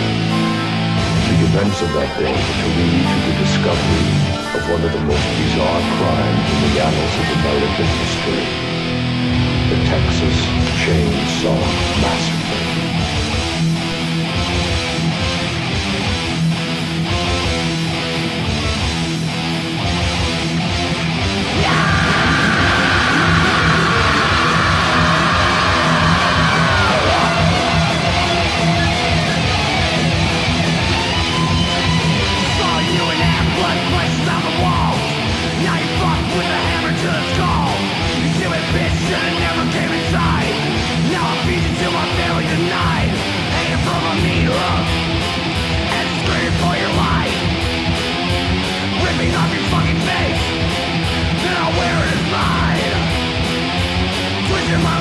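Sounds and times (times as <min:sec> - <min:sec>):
thrash metal guitars and bass: 0:00.0 - 0:55.0.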